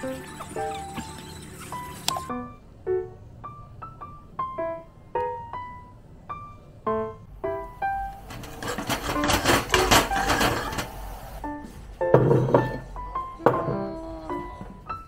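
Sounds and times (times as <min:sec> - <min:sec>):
light piano music: 0:00.0 - 0:15.0.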